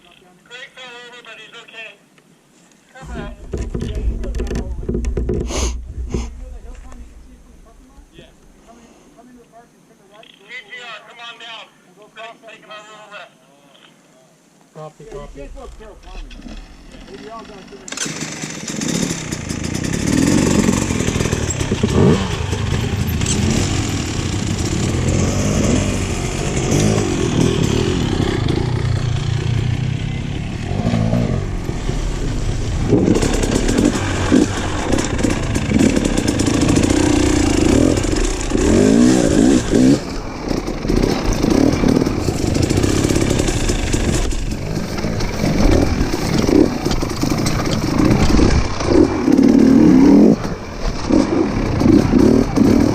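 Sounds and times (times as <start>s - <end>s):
motorcycle engine revving: 3.0s - 8.6s, 15.2s - 52.9s.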